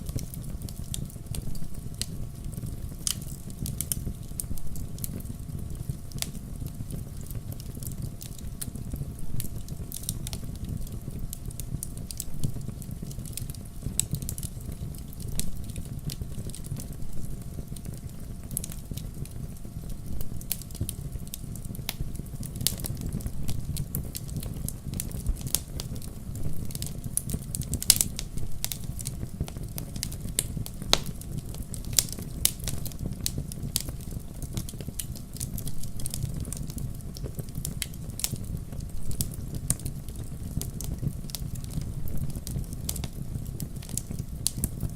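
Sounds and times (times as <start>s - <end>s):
low rumble of flames: 0.0s - 44.9s
sharp pops of fire: 0.0s - 44.9s
wood fire crackling: 0.0s - 44.9s.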